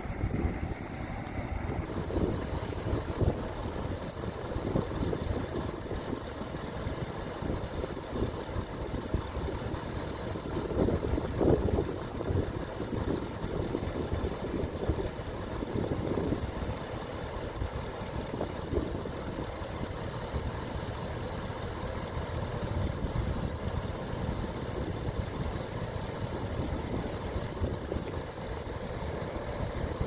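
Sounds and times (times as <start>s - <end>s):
pickup truck engine rumbling: 0.0s - 30.0s.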